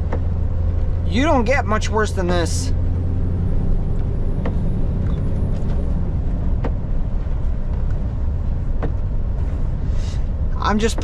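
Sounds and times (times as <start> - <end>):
road noise: 0.0 - 11.0
truck engine droning: 0.0 - 11.0.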